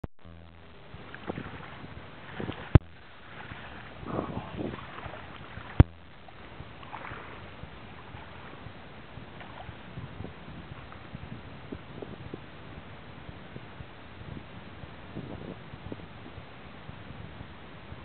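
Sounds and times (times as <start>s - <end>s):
wind on microphone: 0.2s - 18.0s.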